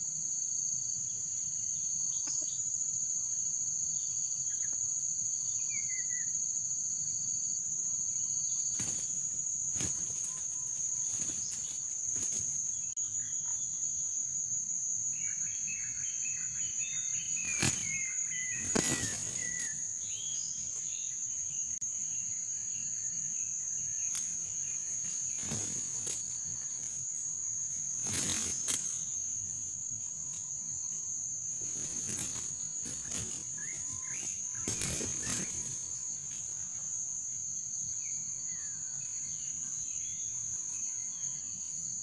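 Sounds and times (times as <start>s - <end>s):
insects droning: 0.0s - 42.0s
lower insect drone: 0.0s - 42.0s.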